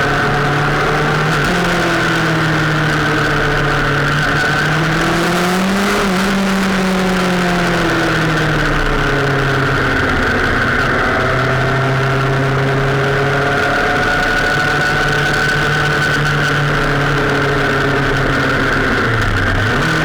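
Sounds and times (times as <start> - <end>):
vehicle engine cruising: 0.0 - 20.0
wind or road noise: 0.0 - 20.0.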